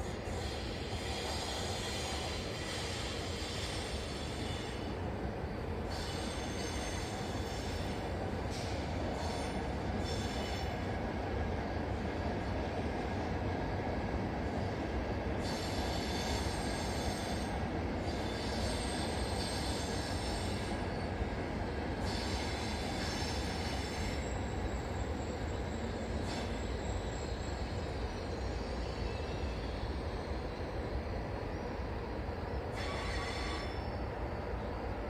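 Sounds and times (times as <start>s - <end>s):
train rumbling: 0.0s - 35.0s
train wheels squealing: 0.0s - 35.0s.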